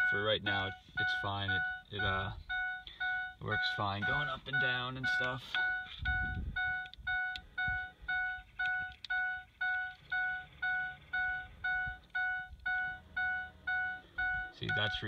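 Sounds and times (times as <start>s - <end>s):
vehicle warning chime dinging: 0.0s - 15.0s.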